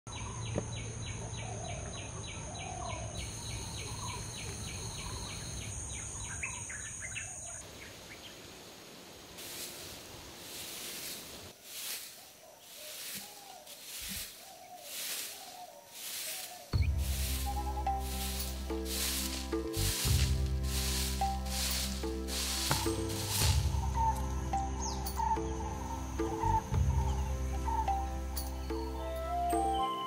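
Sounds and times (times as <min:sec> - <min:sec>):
rapid insect chirping: 0:00.2 - 0:29.1
high insect tones: 0:03.2 - 0:29.9.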